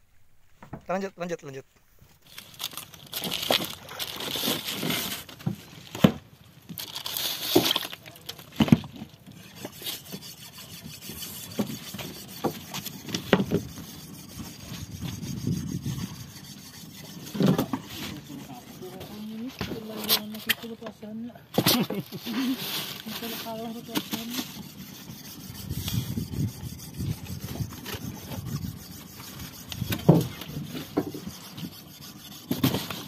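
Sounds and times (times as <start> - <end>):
knocking and scraping on wooden deck: 3.4 - 6.8, 7.4 - 16.3, 16.9 - 22.2, 22.8 - 33.0.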